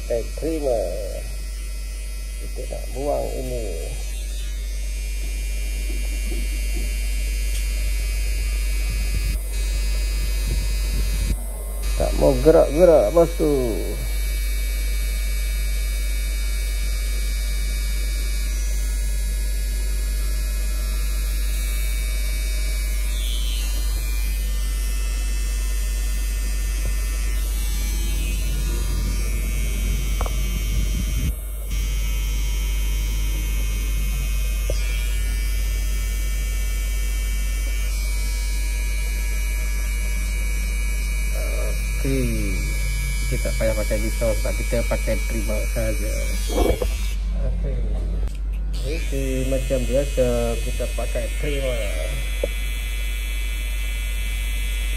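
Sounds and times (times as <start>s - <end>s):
electric hair trimmer buzzing: 0.0s - 54.9s.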